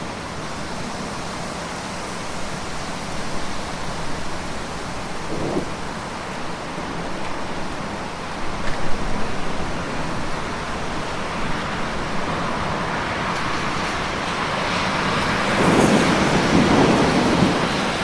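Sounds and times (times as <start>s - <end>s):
rainfall hiss: 0.0s - 18.0s.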